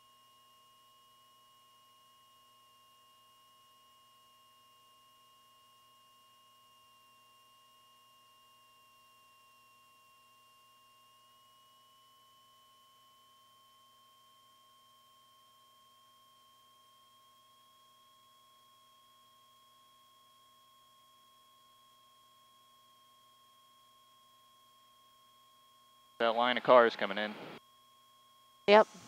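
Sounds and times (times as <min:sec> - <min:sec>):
faint electrical whine: 0:00.0 - 0:29.0.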